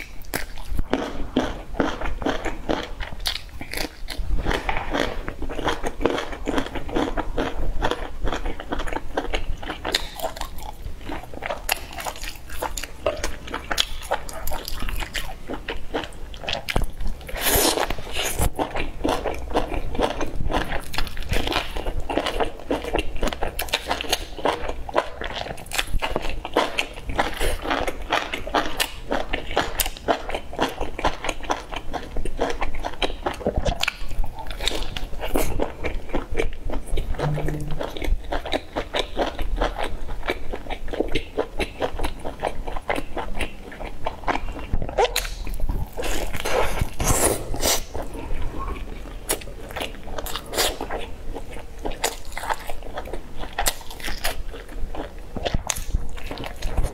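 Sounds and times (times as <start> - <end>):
crunching pastry: 0.0 - 37.2, 38.1 - 48.2, 48.8 - 56.9.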